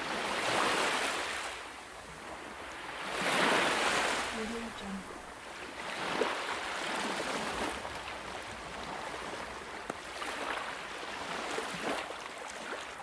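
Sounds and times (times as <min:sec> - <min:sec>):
water washing and rippling: 0:00.0 - 0:13.0.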